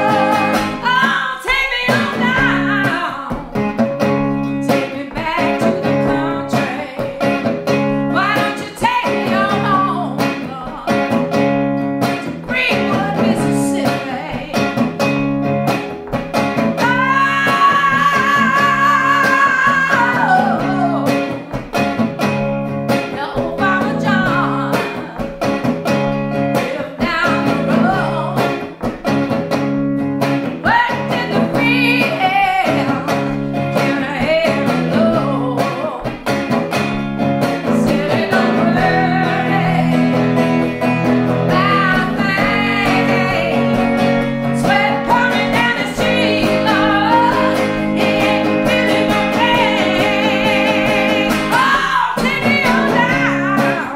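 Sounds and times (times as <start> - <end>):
woman singing: 0.0 - 11.4, 12.0 - 15.2, 16.7 - 21.6, 23.0 - 25.5, 26.4 - 28.9, 30.5 - 36.3, 37.4 - 53.9
electric guitar rhythm: 0.0 - 53.9.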